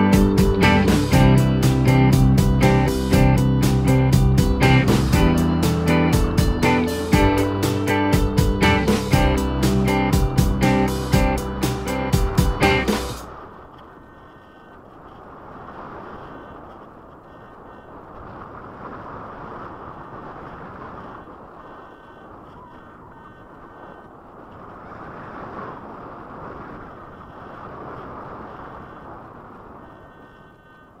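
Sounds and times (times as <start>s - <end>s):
wind rushing over camera: 0.0s - 31.0s.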